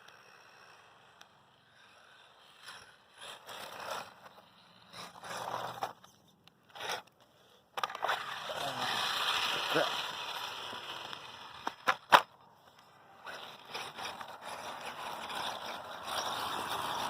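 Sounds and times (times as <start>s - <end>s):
tires scraping on dirt: 0.1s - 7.1s, 7.8s - 12.3s, 12.9s - 17.0s.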